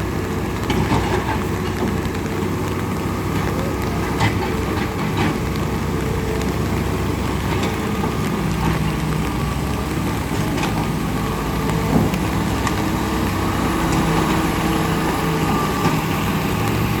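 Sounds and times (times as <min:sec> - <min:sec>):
rain hissing and pattering: 0:00.0 - 0:17.0.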